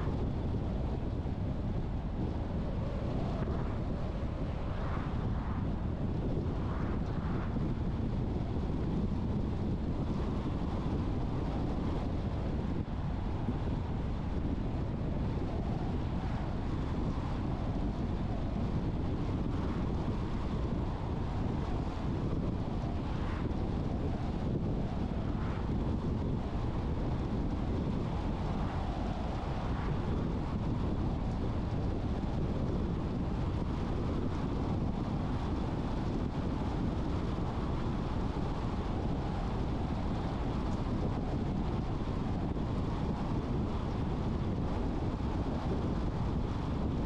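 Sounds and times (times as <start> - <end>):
road and wind noise: 0.0 - 47.0.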